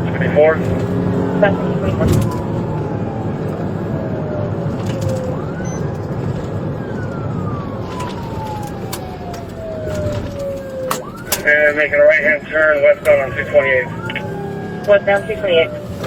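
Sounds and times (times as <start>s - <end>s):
engine and road noise: 0.0s - 16.0s
police siren wailing: 0.0s - 16.0s.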